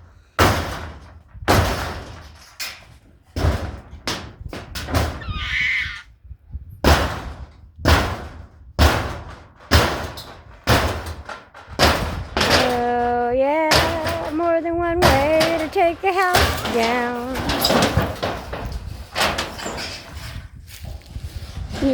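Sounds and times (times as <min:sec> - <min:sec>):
heavy blows on wooden structure: 0:00.2 - 0:02.4, 0:03.1 - 0:05.3, 0:06.7 - 0:21.9.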